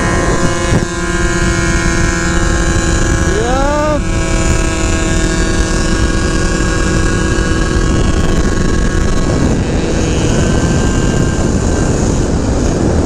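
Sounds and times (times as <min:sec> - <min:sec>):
scooter engines at full throttle: 0:00.0 - 0:13.0
wind on microphone: 0:00.0 - 0:13.0.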